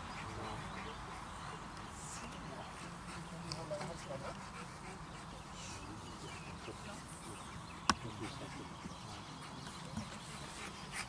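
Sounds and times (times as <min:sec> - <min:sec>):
faint dog sounds: 0:00.0 - 0:11.0
low background noise: 0:00.0 - 0:11.0.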